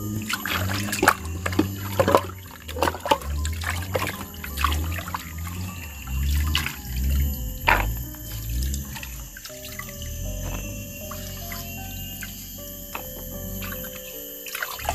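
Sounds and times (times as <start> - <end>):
water splashing and swishing in a pot: 0.0 - 12.5, 13.5 - 14.9
water trickling and dripping: 0.0 - 14.9.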